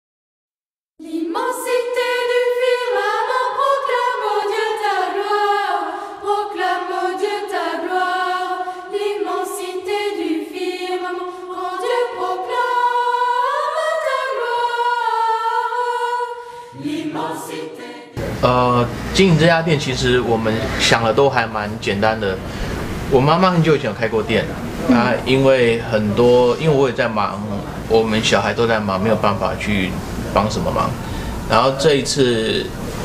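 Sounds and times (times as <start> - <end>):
unaccompanied choral singing: 1.0 - 33.0.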